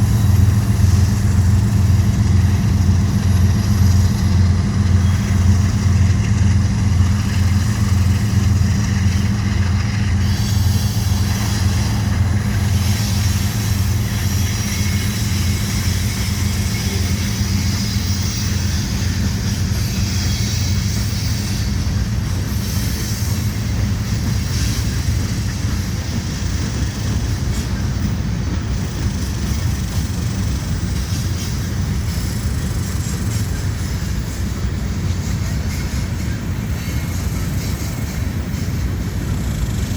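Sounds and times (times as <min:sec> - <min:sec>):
diesel locomotive rumble: 0:00.0 - 0:39.9.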